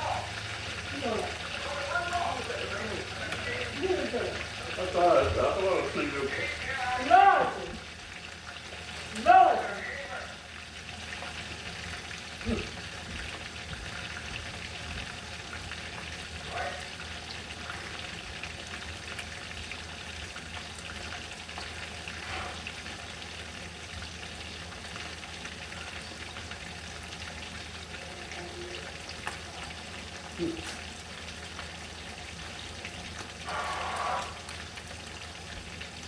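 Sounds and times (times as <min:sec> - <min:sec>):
food sizzling in a pan: 0:00.0 - 0:36.0.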